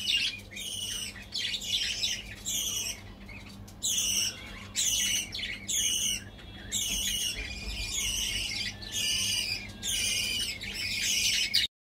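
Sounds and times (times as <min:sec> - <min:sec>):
high-pitched bird-like squawking: 0:00.0 - 0:11.7.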